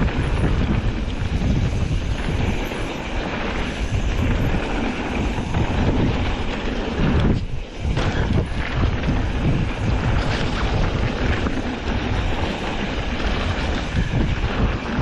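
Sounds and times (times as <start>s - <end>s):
bike tyres rattling over dirt trail: 0.0s - 15.0s
wind rushing over microphone: 0.0s - 15.0s.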